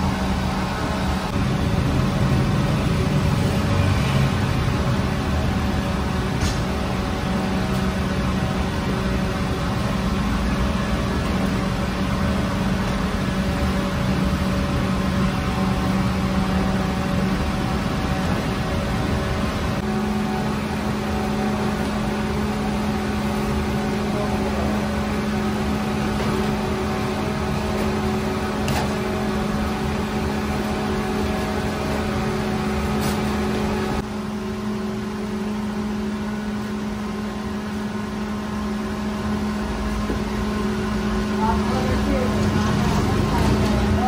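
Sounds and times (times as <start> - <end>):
bakery machinery hum: 0.0 - 44.0.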